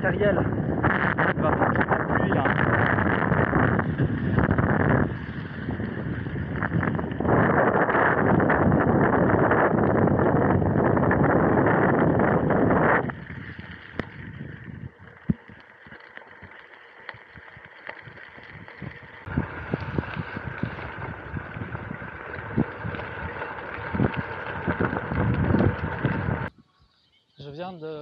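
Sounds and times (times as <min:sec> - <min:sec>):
bicycle tyres crunching on wet gravel: 0:02.2 - 0:26.5.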